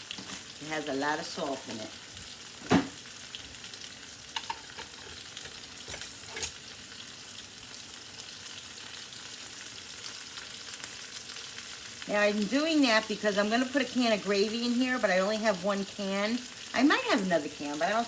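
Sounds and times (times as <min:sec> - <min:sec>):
mushrooms sizzling in a pan: 0:00.0 - 0:18.0.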